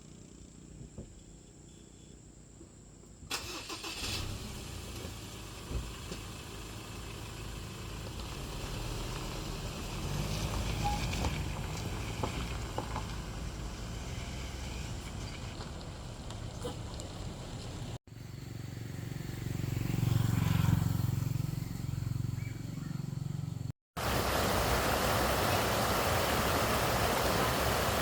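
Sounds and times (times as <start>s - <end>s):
vehicle engine running: 4.4s - 28.0s.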